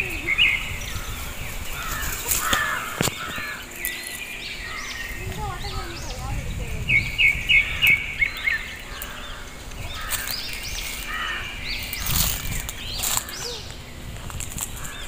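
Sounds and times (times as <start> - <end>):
low rumbling noise: 0.0 - 15.0
small birds chirping: 0.0 - 15.0.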